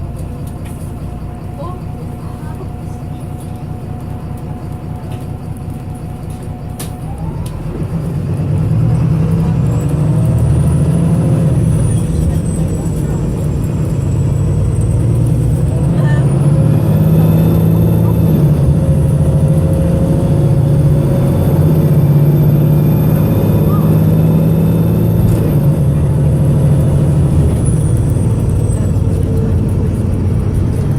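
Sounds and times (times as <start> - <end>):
bus diesel engine misfiring: 0.0 - 30.9.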